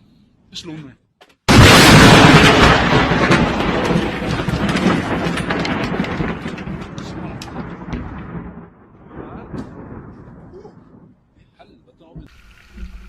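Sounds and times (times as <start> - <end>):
thunderclap: 1.5 - 12.9.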